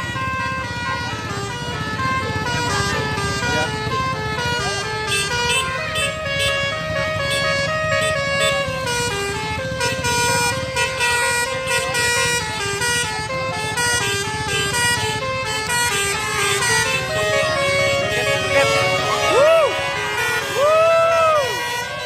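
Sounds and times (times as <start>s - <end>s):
musical air horn playing a tune: 1.2s - 22.0s.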